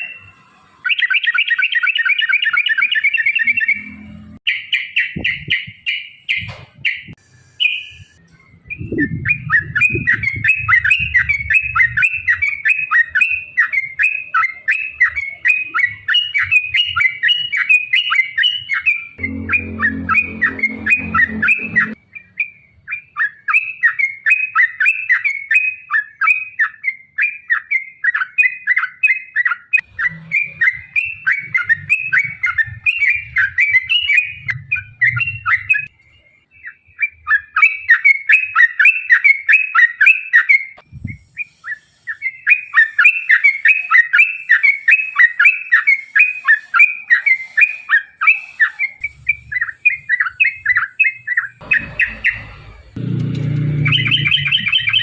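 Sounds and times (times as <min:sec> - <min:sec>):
bird chattering song: 0:00.0 - 0:52.6, 0:53.8 - 0:55.0.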